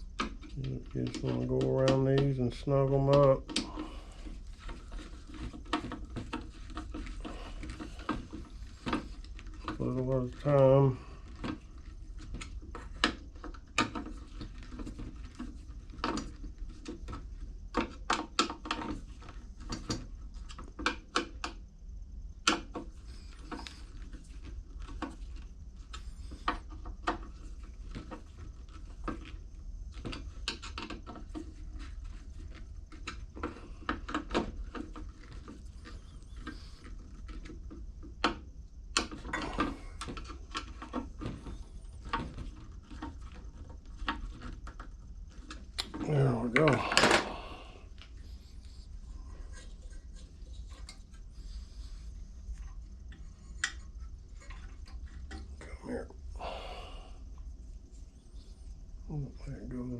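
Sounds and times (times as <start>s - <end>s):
steady low hum: 0.0s - 20.8s, 21.6s - 59.9s.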